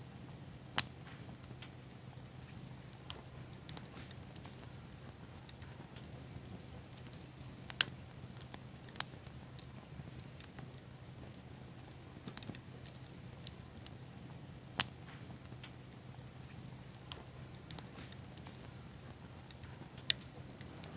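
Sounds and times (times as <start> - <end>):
wood fire crackling and popping: 0.0 - 20.9.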